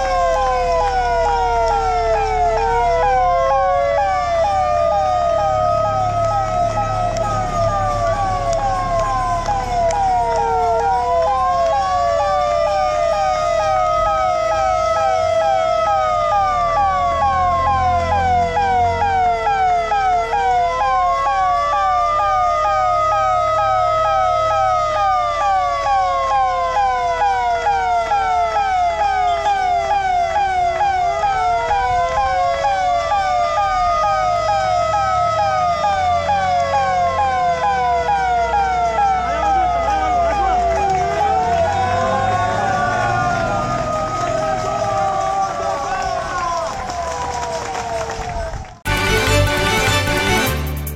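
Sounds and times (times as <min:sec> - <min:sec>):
siren yelp sweeping fast: 0:00.0 - 0:48.5
fire engine siren wailing: 0:00.0 - 0:50.5.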